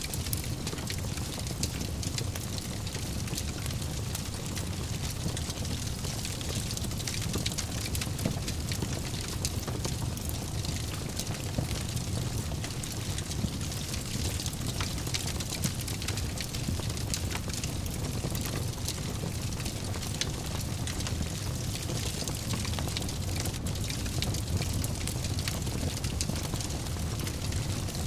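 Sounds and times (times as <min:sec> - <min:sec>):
fire crackling in fireplace: 0:00.0 - 0:28.0.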